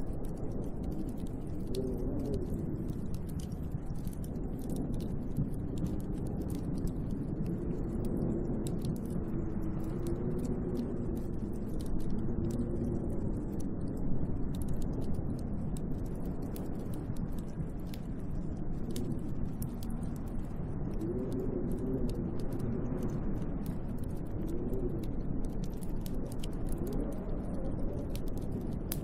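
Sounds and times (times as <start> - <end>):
faint ticks: 0.0 - 29.0
wind blowing with moan: 0.0 - 29.0.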